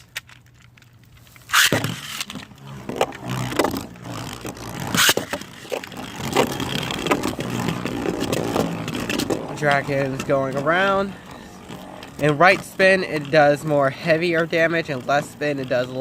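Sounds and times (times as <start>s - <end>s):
spinning tops scraping around bowl: 1.5s - 16.0s.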